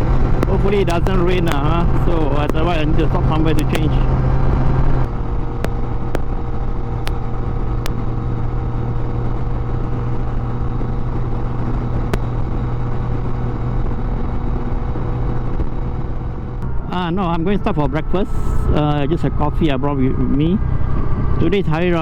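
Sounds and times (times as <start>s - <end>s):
motorcycle engine drone: 0.0s - 22.0s
wind and road noise: 0.0s - 22.0s.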